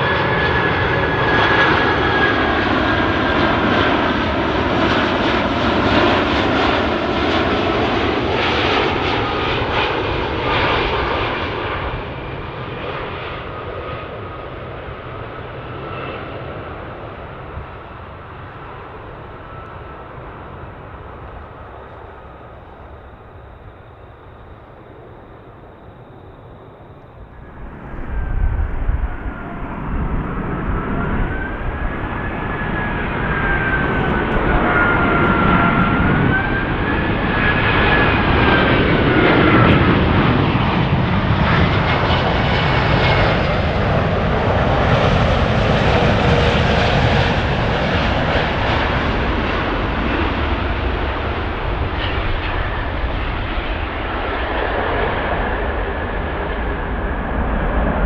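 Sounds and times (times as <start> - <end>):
jet engine rumble: 0.0 - 58.0
jet engines whining: 0.0 - 58.0.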